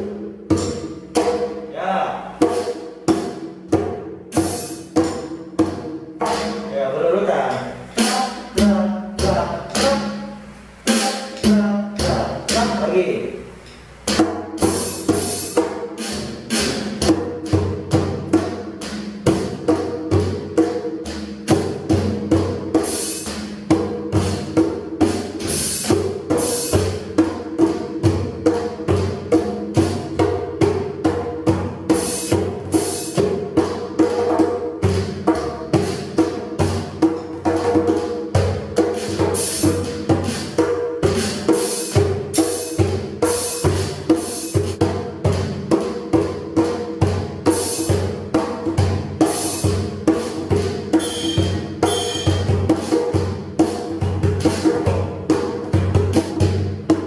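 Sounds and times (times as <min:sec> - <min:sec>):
electronic drum beat: 0:02.3 - 0:06.8, 0:07.5 - 0:13.2, 0:14.0 - 0:57.0.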